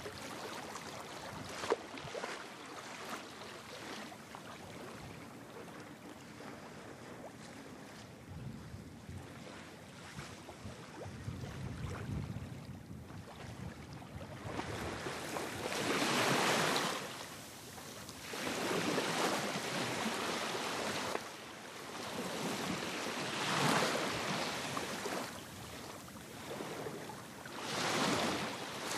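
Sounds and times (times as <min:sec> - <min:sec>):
small waves splashing: 0:00.0 - 0:28.9.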